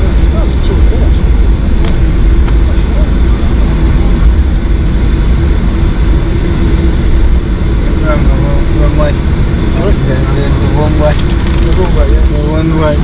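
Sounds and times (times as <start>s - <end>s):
even hum: 0.0s - 13.0s
jet engine cabin rumble: 0.0s - 13.0s.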